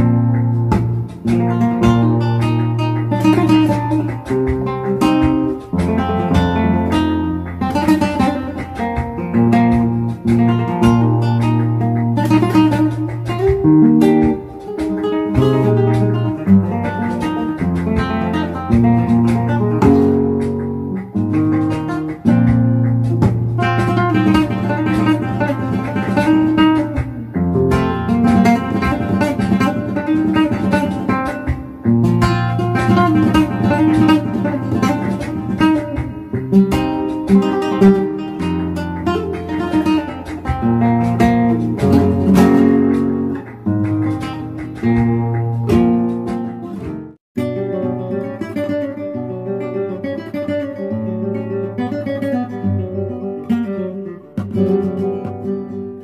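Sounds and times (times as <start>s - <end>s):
flamenco acoustic guitar: 0.0s - 56.0s.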